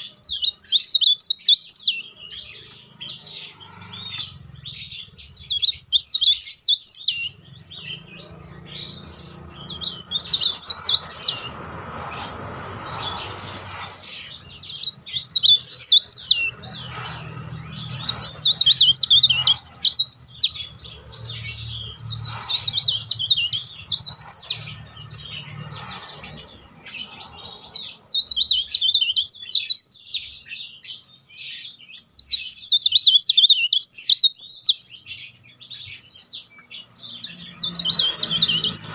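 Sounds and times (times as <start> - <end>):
bird singing trilling phrases: 0.0 - 38.9.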